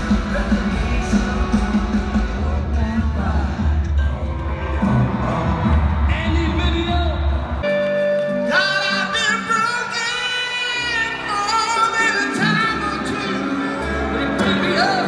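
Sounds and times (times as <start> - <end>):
man singing: 0.0 - 7.1, 8.3 - 15.0
live band playing: 0.0 - 15.0.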